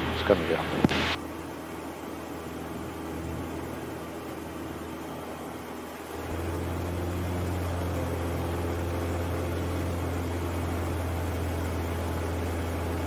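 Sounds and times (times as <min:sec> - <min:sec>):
airplane engine droning in cockpit: 0:00.0 - 0:13.0.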